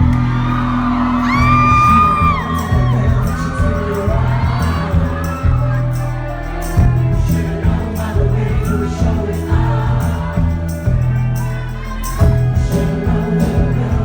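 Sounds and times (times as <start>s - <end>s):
live rock band: 0.0s - 14.0s
pounding bass line: 0.0s - 14.0s
steady drum beat: 0.0s - 14.0s
man singing: 0.8s - 14.0s.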